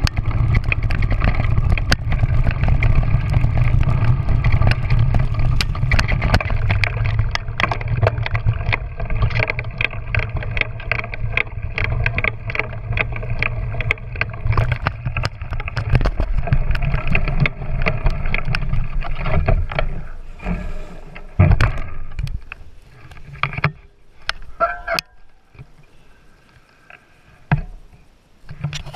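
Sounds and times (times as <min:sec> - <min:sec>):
rattles and knocks from bumps: 0:00.0 - 0:25.7.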